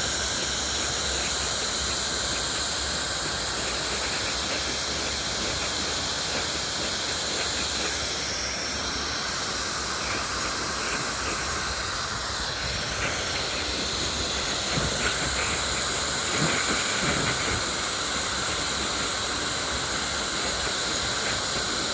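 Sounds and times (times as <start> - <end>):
hair dryer blowing air: 0.0 - 21.9
motor high whine: 0.0 - 21.9.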